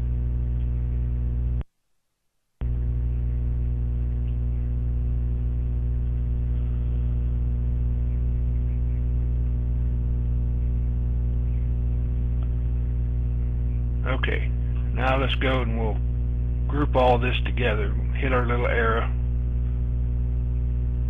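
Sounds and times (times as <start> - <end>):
electrical mains hum: 0.0 - 1.7, 2.6 - 21.0.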